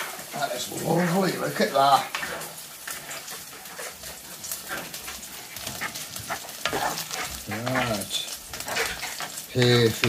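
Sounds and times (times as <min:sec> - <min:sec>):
food sizzling in a skillet: 0:00.0 - 0:10.0
spatula scraping a pan: 0:00.0 - 0:10.0.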